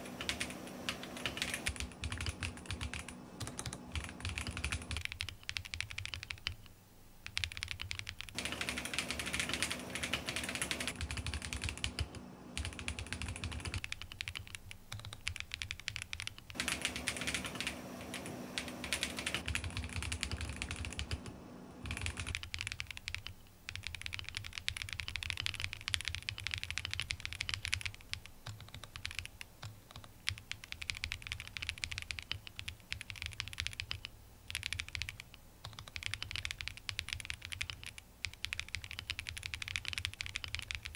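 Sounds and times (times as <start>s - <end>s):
fast mechanical keyboard typing: 0.0s - 40.9s.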